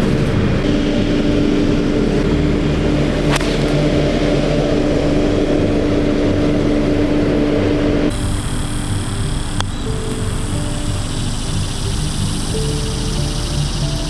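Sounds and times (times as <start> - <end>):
golf cart motor humming: 0.0 - 14.0.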